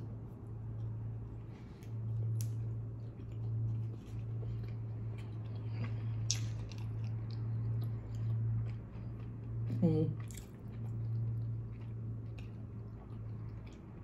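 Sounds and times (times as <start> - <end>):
person chewing soft bun: 0.0 - 14.0
steady low hum: 0.0 - 14.0.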